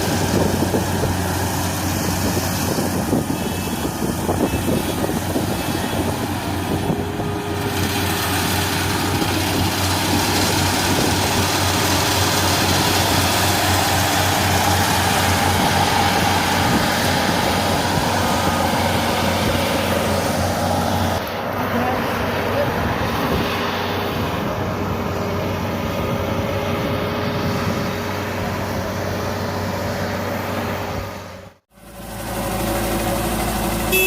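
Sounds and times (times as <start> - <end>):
combine harvester engine hum: 0.0 - 34.0.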